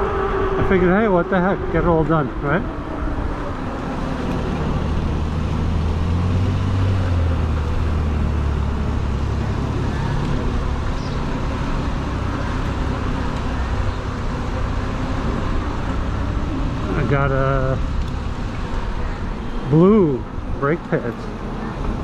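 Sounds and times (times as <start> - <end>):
steady rushing noise: 0.0 - 22.0
vehicle hum: 0.0 - 22.0.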